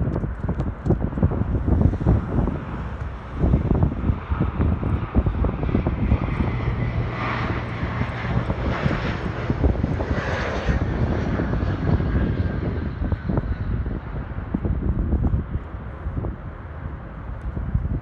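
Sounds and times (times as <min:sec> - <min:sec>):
jet airliner engines rushing: 0:00.0 - 0:18.0
wind buffeting microphone: 0:00.0 - 0:18.0.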